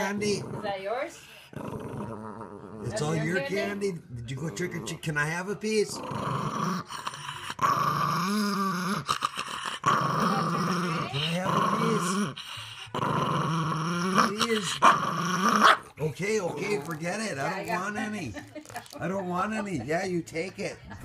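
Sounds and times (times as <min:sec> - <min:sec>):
small dog growling: 0:00.0 - 0:03.6, 0:04.3 - 0:17.9.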